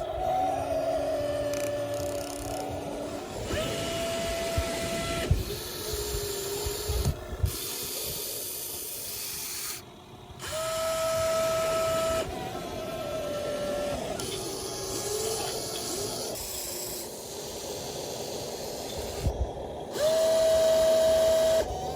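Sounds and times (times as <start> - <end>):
toy excavator motors whining: 0.0 - 21.9.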